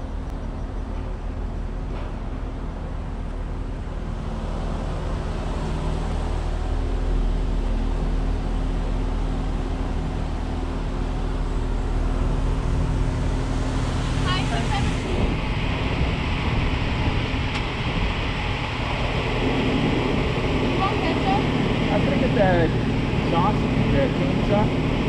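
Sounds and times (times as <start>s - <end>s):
tyre and road noise: 0.0s - 25.0s
car engine running: 3.6s - 25.0s.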